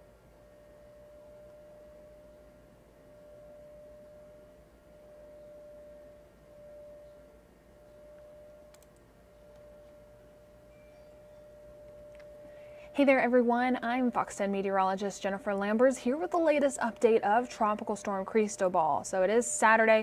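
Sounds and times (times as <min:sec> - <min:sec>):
low hum: 0:00.0 - 0:20.0
steady pure tone: 0:00.0 - 0:20.0.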